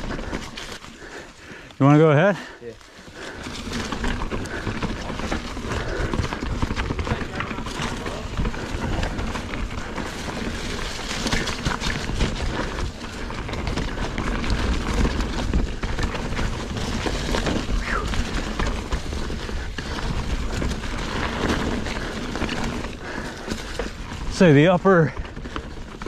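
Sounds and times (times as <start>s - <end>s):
bike chain and frame rattling: 0.0s - 26.0s
tires crunching through leaves: 0.0s - 26.0s.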